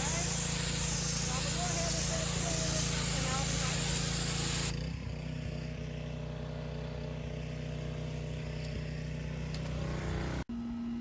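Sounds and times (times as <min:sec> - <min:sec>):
small engine droning: 0:00.0 - 0:11.0.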